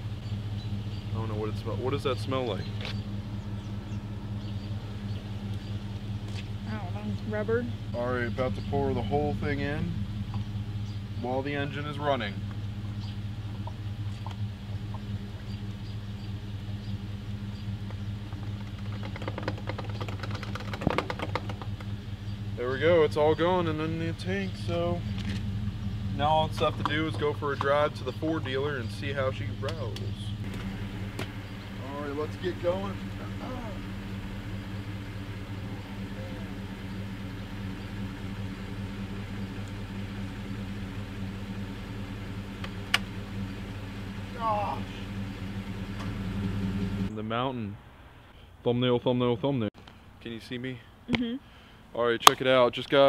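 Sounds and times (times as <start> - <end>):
truck engine idling: 0.0 - 47.2.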